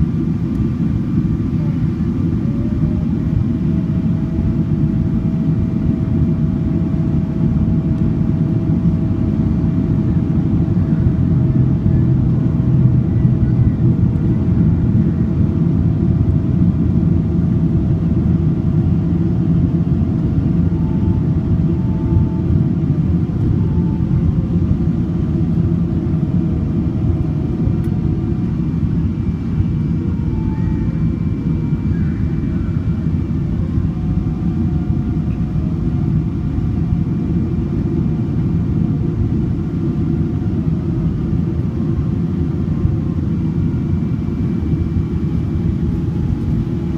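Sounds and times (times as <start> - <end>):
airliner cabin engine rumble: 0.0 - 46.9
faint whining tones: 0.1 - 46.9.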